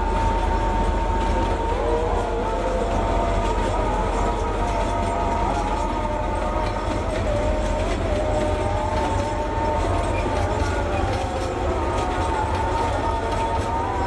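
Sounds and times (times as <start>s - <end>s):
train rumble: 0.0s - 14.0s
train wagons clattering over rails: 0.0s - 14.0s.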